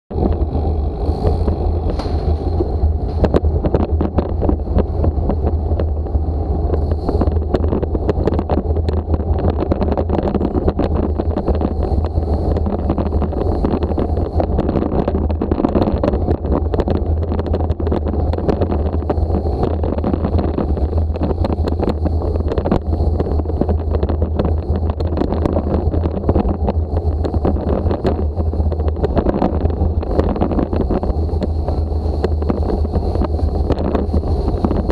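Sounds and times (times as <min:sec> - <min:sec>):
bike rattles and clicks: 0:00.1 - 0:34.9
wind buffeting microphone: 0:00.1 - 0:34.9.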